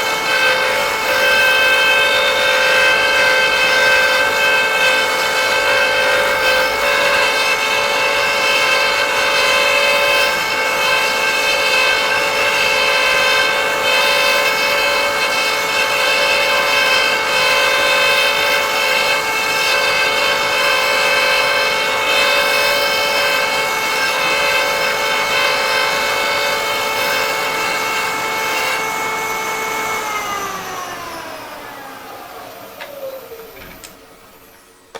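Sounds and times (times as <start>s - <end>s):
cutter cutting wood: 0.0s - 34.9s
power tool motor whining: 0.0s - 34.9s.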